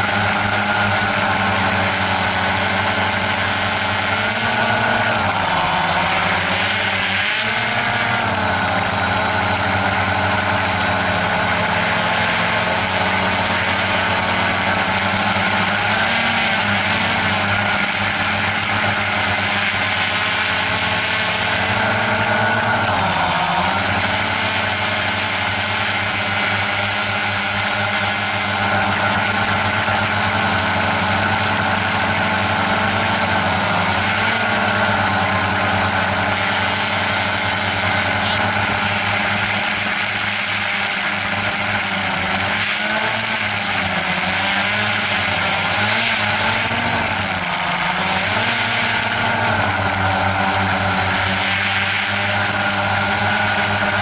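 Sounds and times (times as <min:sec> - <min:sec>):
drone propellers whirring: 0:00.0 - 0:54.0.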